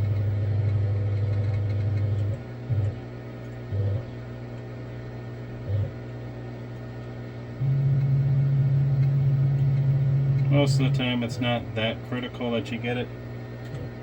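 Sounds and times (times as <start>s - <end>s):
stepper motors humming: 0.0s - 14.0s.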